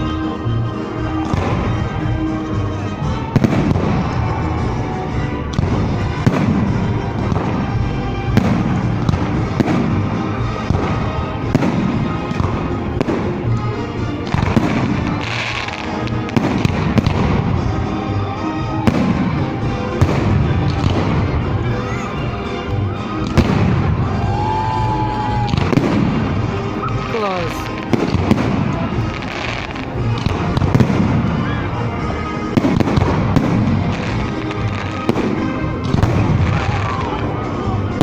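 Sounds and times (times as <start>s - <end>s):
fireworks bangs and crackles: 0.0s - 38.0s
music playing: 0.0s - 38.0s.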